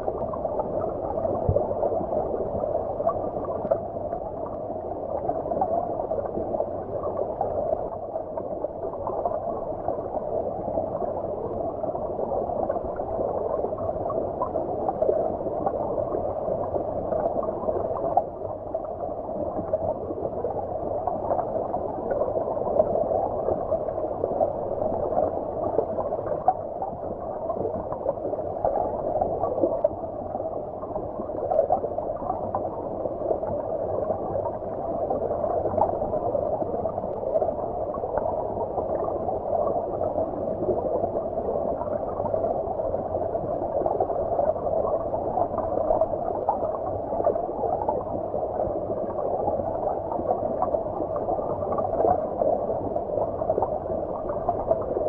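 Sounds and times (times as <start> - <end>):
muffled underwater stream flow: 0.0 - 55.0.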